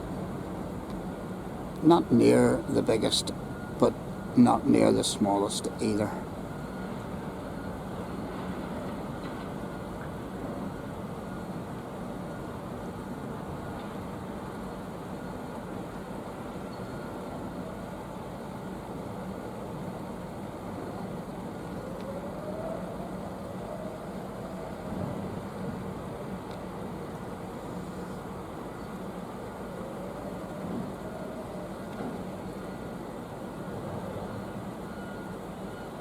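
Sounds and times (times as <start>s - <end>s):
distant vehicle rumble and hiss: 0.0s - 36.0s.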